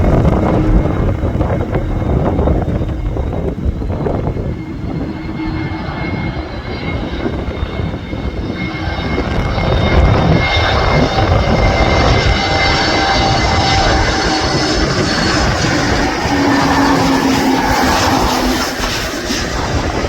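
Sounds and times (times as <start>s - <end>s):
jet engines rumble and whine: 0.0s - 20.0s
wind buffeting microphone: 0.0s - 20.0s.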